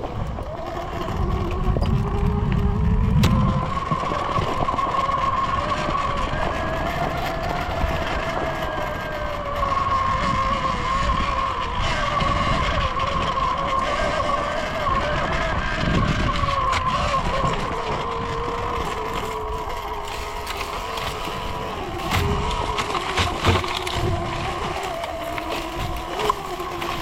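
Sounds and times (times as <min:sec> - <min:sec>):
electric motor whining: 0:00.0 - 0:27.0
wind and trail rumble: 0:00.0 - 0:27.0.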